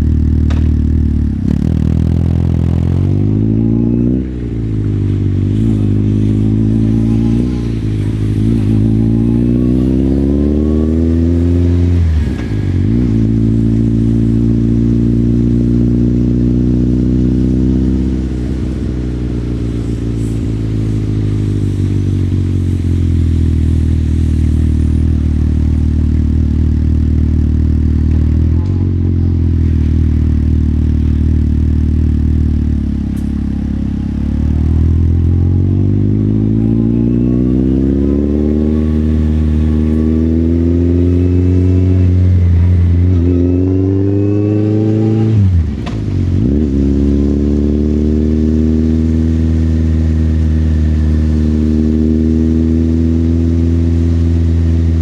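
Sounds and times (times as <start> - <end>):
motorcycle engine shifting gears: 0.0 - 55.0.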